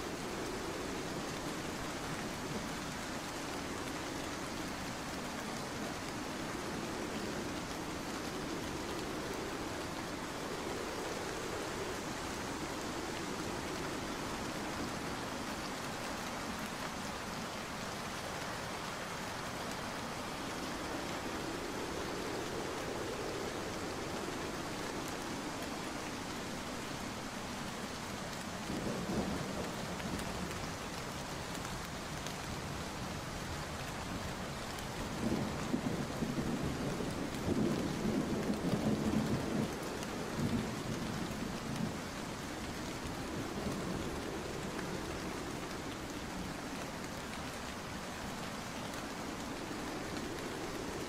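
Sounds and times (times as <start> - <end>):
heavy rain hissing: 0.0 - 51.0.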